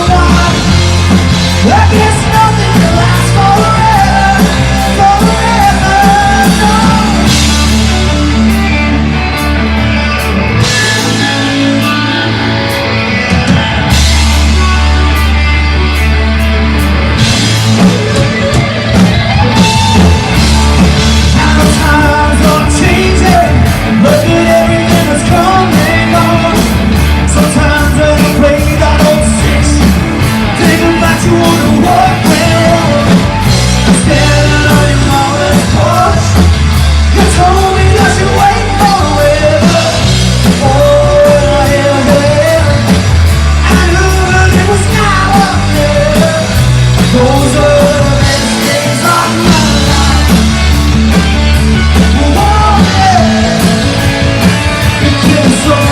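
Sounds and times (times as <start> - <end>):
lead vocalist singing: 0.0 - 16.4, 17.1 - 55.9
live rock band playing: 0.0 - 55.9.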